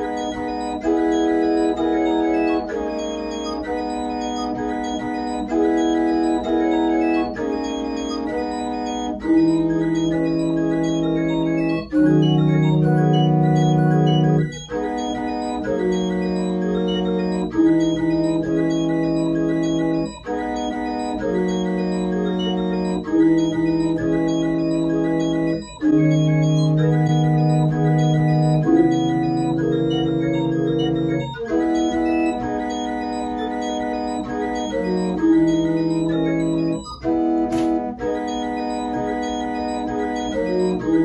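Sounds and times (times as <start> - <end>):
pipe organ playing sustained chords: 0.0 - 41.0.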